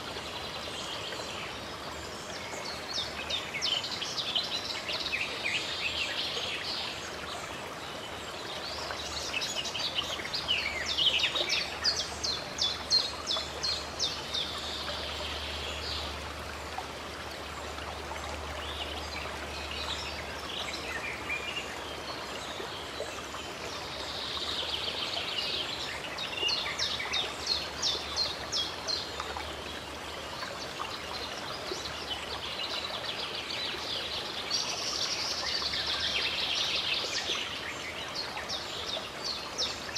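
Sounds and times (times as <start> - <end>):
running stream water: 0.0 - 39.9.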